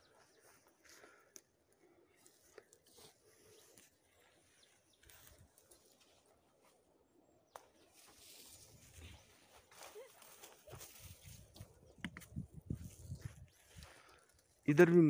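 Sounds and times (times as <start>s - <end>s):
footsteps crunching on dry grass: 0.0s - 1.3s, 2.1s - 6.9s, 7.6s - 15.0s.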